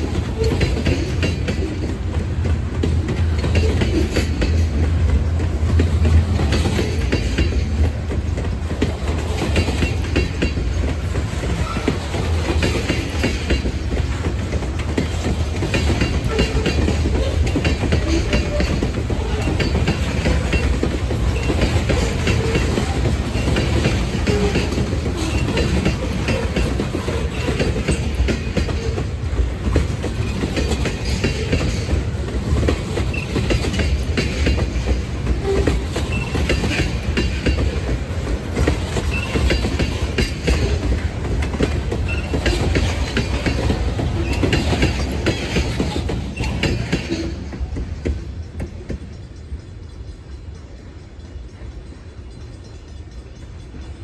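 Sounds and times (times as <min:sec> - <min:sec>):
train wheels rumbling: 0:00.0 - 0:54.0
wheels clicking over rail joints: 0:00.0 - 0:54.0.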